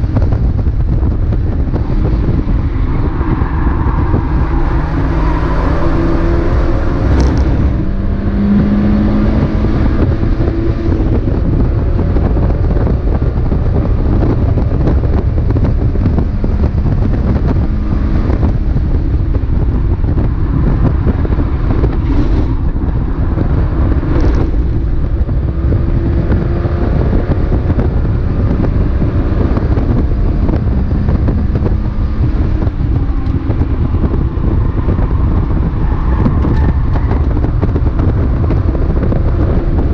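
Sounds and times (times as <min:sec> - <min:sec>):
race car engine: 0:00.0 - 0:39.9
wind and road noise rumble: 0:00.0 - 0:39.9.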